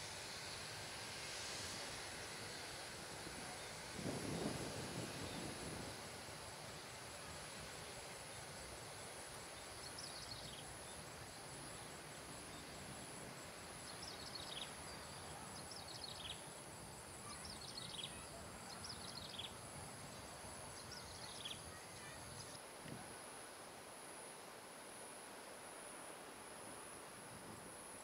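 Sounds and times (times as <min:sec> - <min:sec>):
faint hiss: 0:00.0 - 0:28.0
high insect drone: 0:00.0 - 0:28.0.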